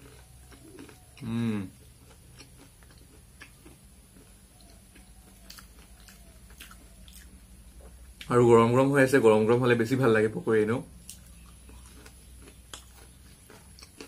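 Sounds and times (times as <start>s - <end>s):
crunchy chewing: 0.0s - 8.7s, 10.9s - 14.0s.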